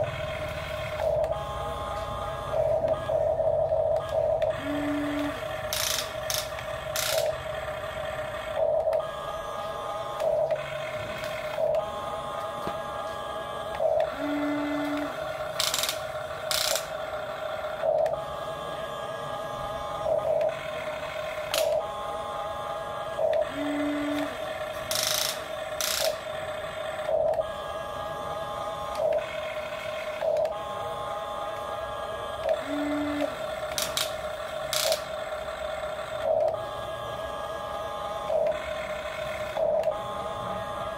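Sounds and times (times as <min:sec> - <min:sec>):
toy electric motors whining: 0:00.0 - 0:40.9.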